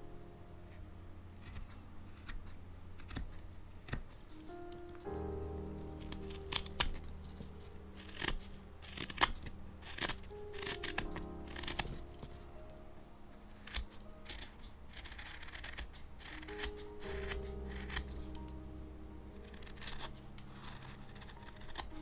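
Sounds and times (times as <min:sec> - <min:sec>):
soft background music: 0:00.0 - 0:22.0
knife shaving wood: 0:01.4 - 0:22.0.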